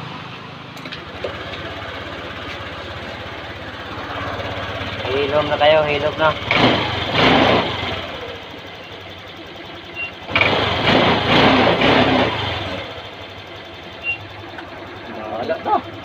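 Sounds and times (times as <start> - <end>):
scooter engine idling: 0.0 - 11.2, 12.4 - 16.0.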